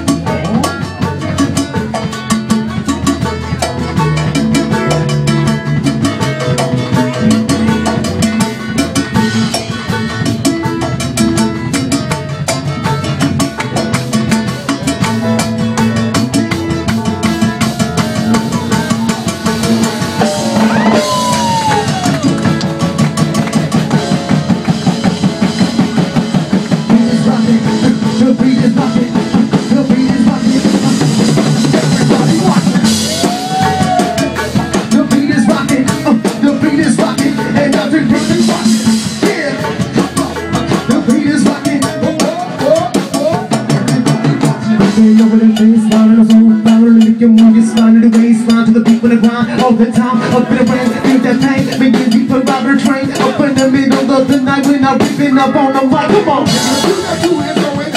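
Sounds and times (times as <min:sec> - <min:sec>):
bass drum: 0:00.0 - 0:57.9
keyboards: 0:00.0 - 0:57.9
live band playing instrumental: 0:00.0 - 0:57.9
upright bass: 0:00.0 - 0:57.9.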